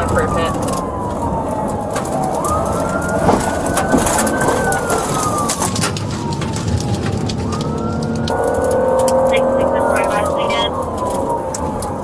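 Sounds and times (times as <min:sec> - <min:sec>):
car engine and road noise: 0:00.0 - 0:12.0
police siren wailing: 0:00.0 - 0:12.0.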